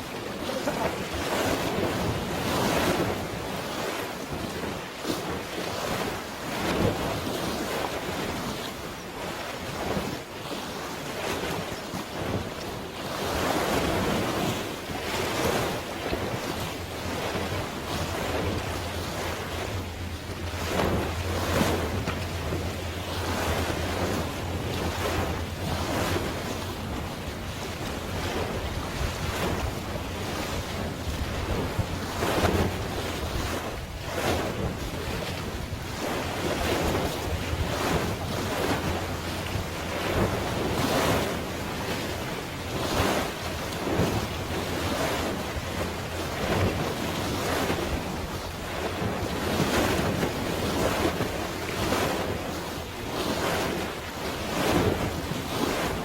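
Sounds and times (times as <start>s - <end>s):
sea waves washing in: 0.0s - 56.0s
wind rumbling on microphone: 0.0s - 56.0s.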